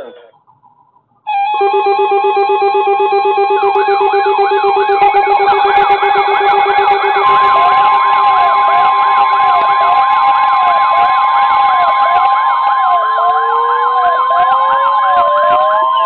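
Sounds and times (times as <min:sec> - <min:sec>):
fast repeating warble: 0:00.3 - 0:16.0
steady alarm tone: 0:00.4 - 0:16.0
rising tone: 0:01.3 - 0:16.0
slower wailing alarm: 0:01.3 - 0:16.0.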